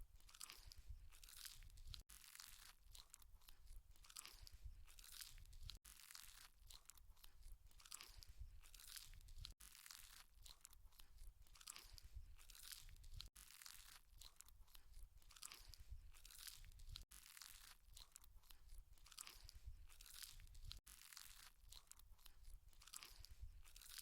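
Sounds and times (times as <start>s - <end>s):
wet crunchy chewing: 0.2s - 24.0s.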